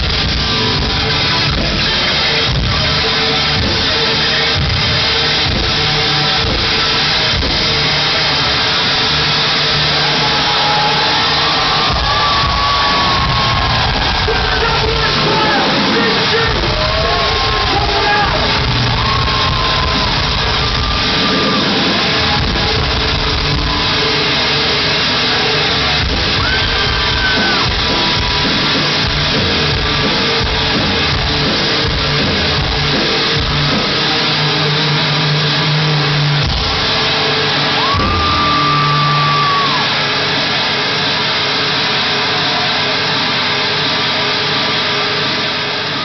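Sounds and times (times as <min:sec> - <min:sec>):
metalcore band playing live: 0:00.0 - 0:46.0.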